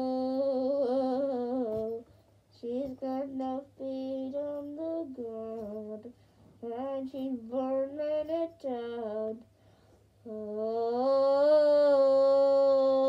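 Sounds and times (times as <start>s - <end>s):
girl singing muffled: 0.0s - 9.6s, 10.2s - 13.0s.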